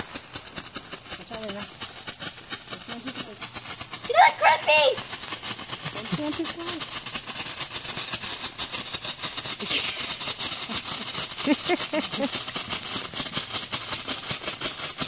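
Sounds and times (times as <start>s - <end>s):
fireworks fountain hissing and crackling: 0.0s - 15.0s.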